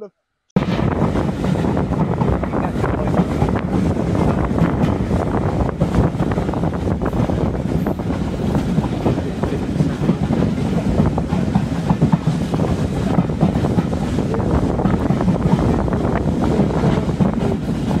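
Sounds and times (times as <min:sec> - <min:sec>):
train rumble: 0:00.6 - 0:18.0
wind rushing over microphone: 0:00.6 - 0:18.0
wheels clicking on track: 0:01.0 - 0:18.0.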